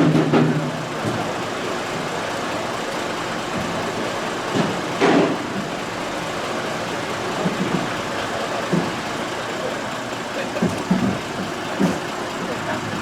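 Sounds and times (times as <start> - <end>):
motor vehicle running: 0.0 - 13.0.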